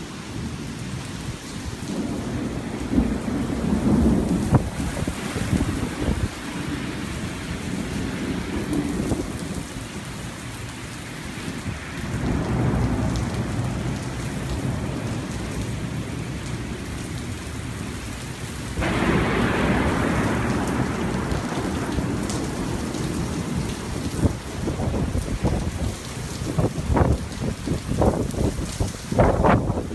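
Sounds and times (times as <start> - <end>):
steady rain: 0.0 - 29.9
thunder rumbling: 0.4 - 10.2, 11.4 - 29.9.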